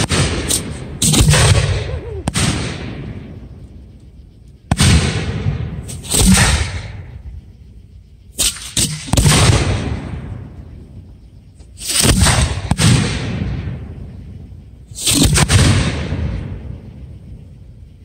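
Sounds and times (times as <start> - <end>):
firework shells bursting: 0.0 - 17.9.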